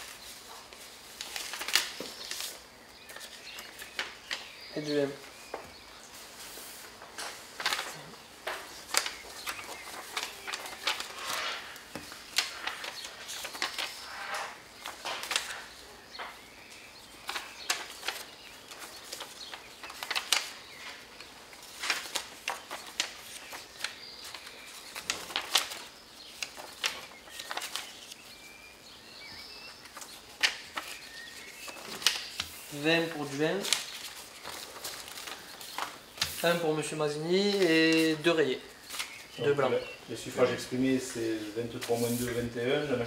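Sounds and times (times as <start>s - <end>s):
paper rustling and crackling: 0.0s - 28.6s, 29.2s - 43.0s.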